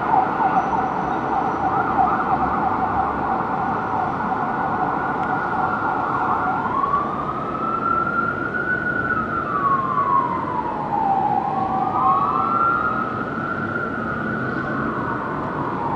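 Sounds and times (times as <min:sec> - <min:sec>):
fire engine siren: 0:00.0 - 0:15.9.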